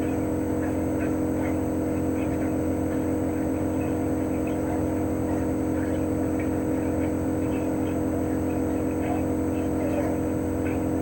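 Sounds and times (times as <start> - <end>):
air conditioner compressor hum: 0.0 - 11.0.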